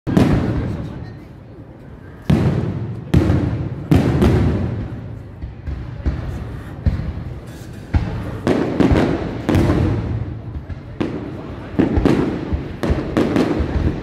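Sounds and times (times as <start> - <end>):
firework shells booming: 2.2 - 14.0.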